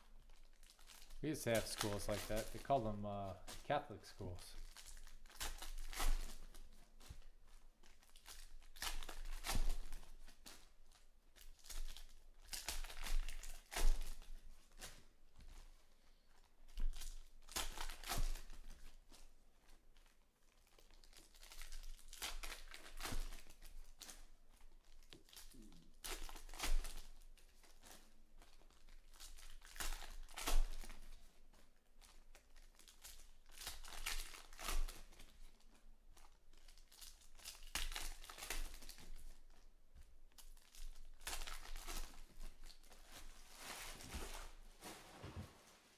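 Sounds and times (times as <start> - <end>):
foil wrappers crinkling and tearing: 0.0 - 3.6, 4.2 - 15.0, 16.3 - 19.3, 19.9 - 39.7, 40.3 - 45.3.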